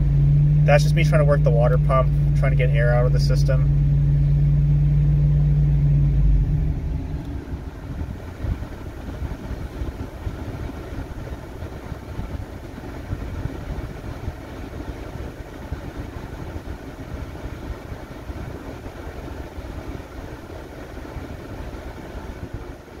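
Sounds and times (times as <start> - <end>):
air conditioning blower: 0.0 - 23.0
truck engine idling: 0.0 - 23.0.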